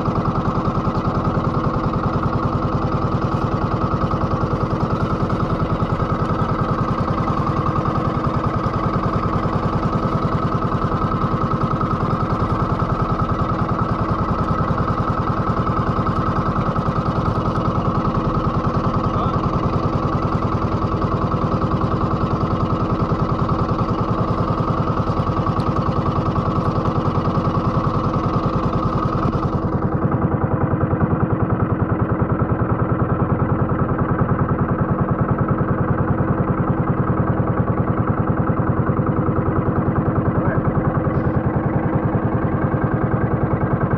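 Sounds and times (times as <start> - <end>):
boat engine chugging: 0.0 - 43.9.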